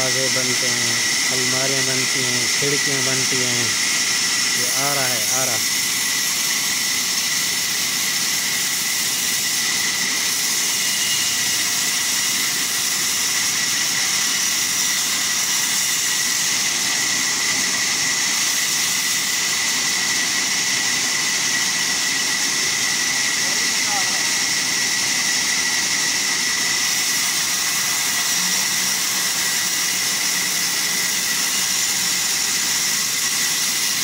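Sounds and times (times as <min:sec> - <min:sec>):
band saw cutting log: 0:00.0 - 0:34.0.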